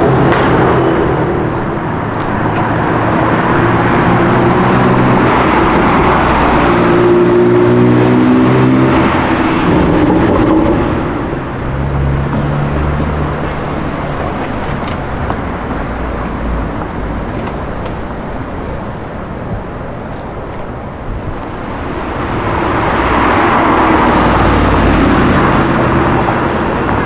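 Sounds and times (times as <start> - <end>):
car engine revving: 0.0 - 17.6, 21.6 - 27.0
street traffic: 0.0 - 27.0.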